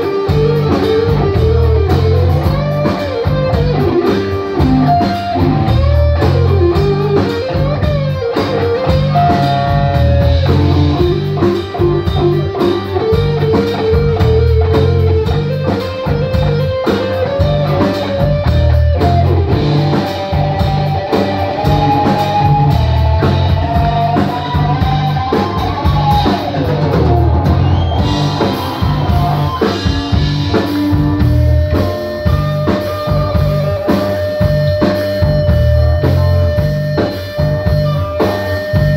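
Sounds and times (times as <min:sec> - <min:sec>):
drum kit beat: 0:00.0 - 0:38.9
electric bass: 0:00.0 - 0:38.9
electric guitar lead line: 0:00.0 - 0:38.9.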